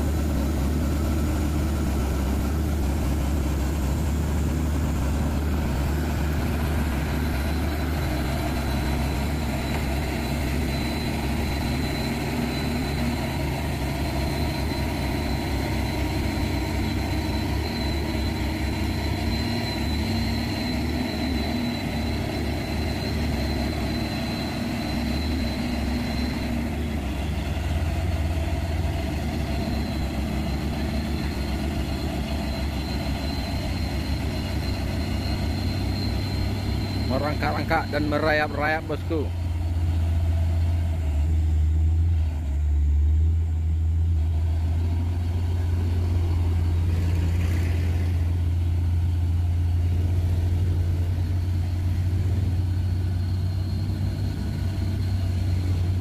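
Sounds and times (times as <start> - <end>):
truck diesel engine at low revs: 0.0 - 56.0.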